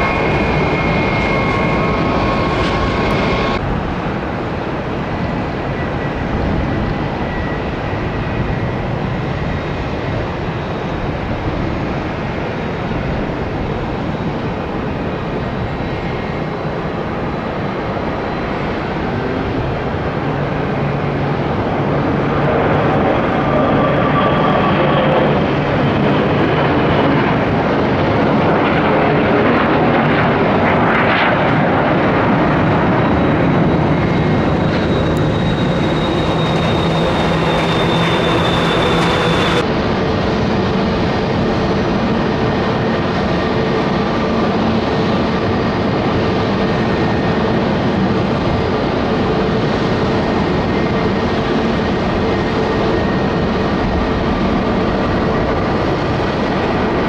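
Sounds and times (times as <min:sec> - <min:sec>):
high jet whine: 0:00.0 - 0:12.4, 0:14.6 - 0:57.0
jet engine taking off: 0:00.0 - 0:57.0.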